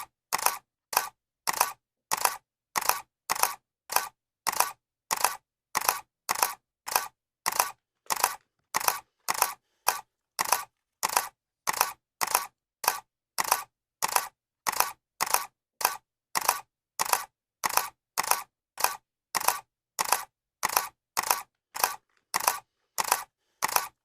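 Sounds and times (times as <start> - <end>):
camera shutter clicking: 0.3 - 24.0.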